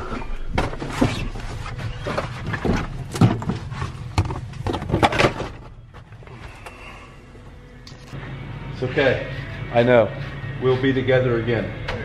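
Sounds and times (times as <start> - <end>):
steady low hum: 1.4 - 12.0.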